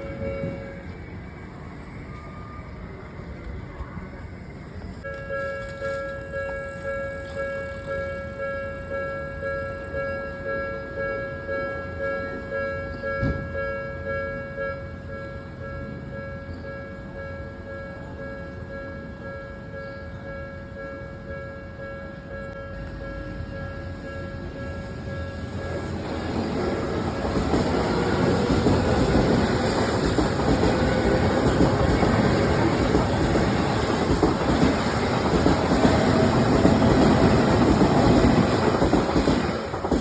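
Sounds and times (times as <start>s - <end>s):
level-crossing alarm bell: 0.0s - 3.3s, 4.6s - 38.3s.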